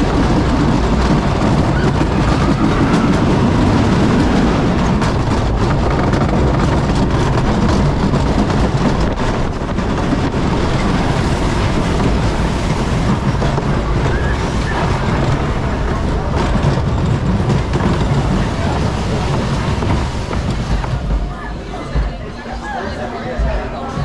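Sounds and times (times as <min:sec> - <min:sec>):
roller coaster wheels rumbling: 0:00.0 - 0:24.0
wooden track clacking: 0:00.0 - 0:24.0.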